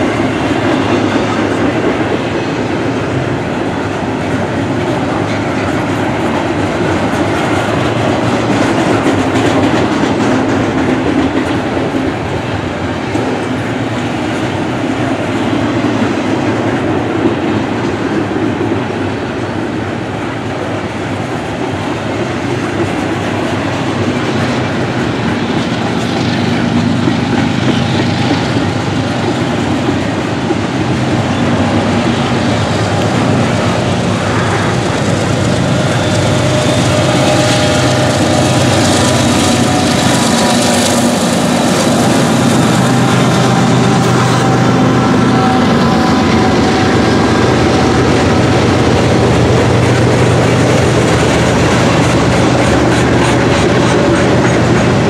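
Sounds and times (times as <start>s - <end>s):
diesel locomotive engine drone: 0.0s - 55.0s
train wheels clacking over rail joints: 0.0s - 55.0s.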